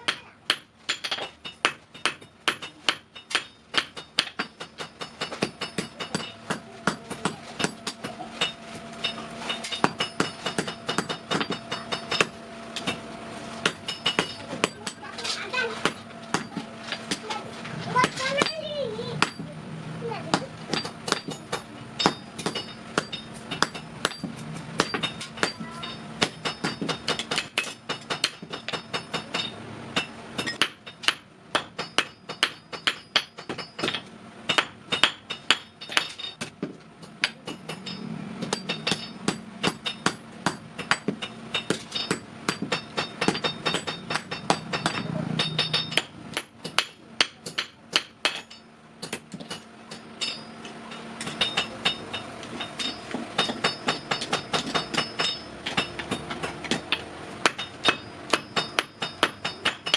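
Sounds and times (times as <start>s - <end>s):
hammering on sheet metal: 0.0s - 17.4s, 20.3s - 59.9s.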